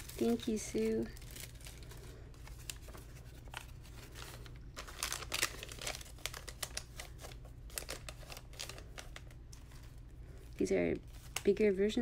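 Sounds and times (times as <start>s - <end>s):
gift packaging crinkling: 0.0s - 11.9s.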